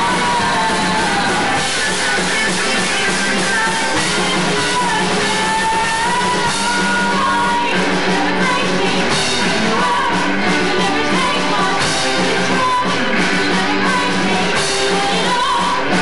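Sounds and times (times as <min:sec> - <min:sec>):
bass line: 0:00.0 - 0:16.0
drum kit: 0:00.0 - 0:16.0
electric guitars: 0:00.0 - 0:16.0
live rock band playing: 0:00.0 - 0:16.0.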